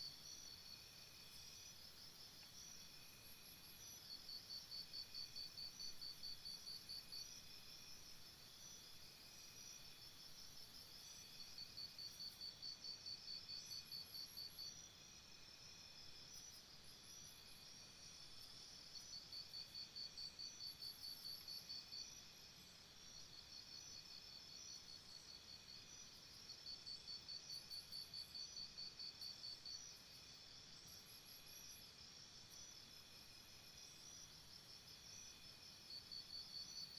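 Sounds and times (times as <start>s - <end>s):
cricket chirping: 0.0s - 36.9s.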